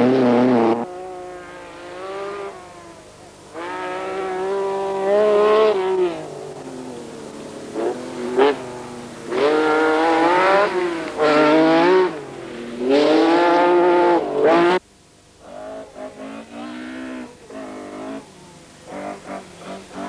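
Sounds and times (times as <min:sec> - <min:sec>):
rally car engines revving: 0:00.0 - 0:14.8, 0:15.4 - 0:20.0
quieter engine: 0:00.0 - 0:20.0.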